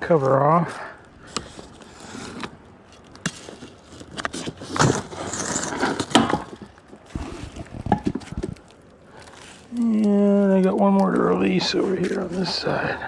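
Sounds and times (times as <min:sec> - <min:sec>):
plastic parts rubbing: 0:01.1 - 0:13.0.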